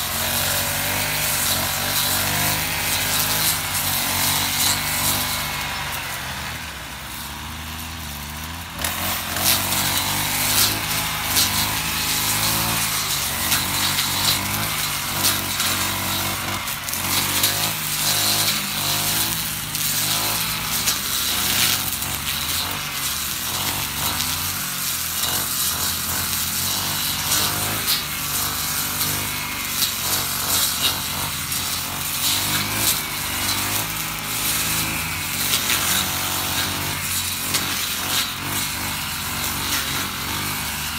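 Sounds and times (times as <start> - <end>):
blade slashing through grass: 0.0 - 40.9
brush cutter engine revving: 0.0 - 40.9.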